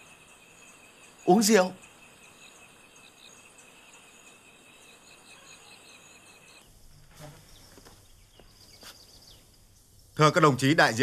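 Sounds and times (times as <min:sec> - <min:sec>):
crickets and insects chirring: 0:00.0 - 0:11.0.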